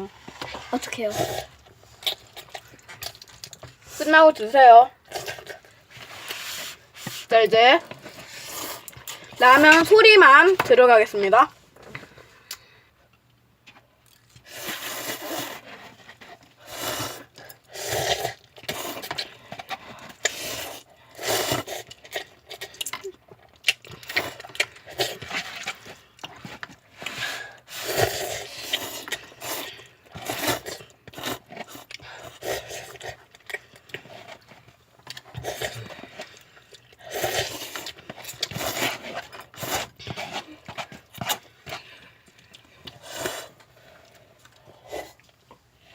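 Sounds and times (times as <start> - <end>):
noodles being slurped: 0.0 - 4.3, 5.0 - 9.9, 14.2 - 45.9.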